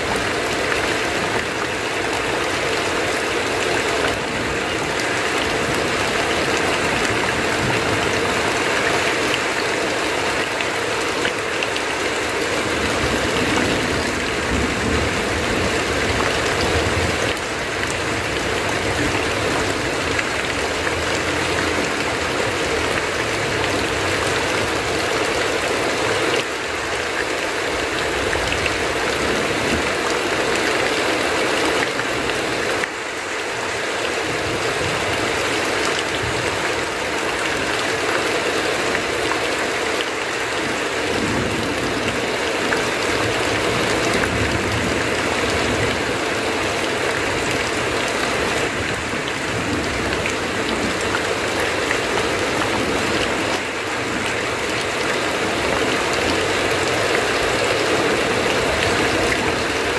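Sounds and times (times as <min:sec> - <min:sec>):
heavy rain on a tin roof: 0:00.0 - 0:59.9
water pouring off roof: 0:00.0 - 0:59.9.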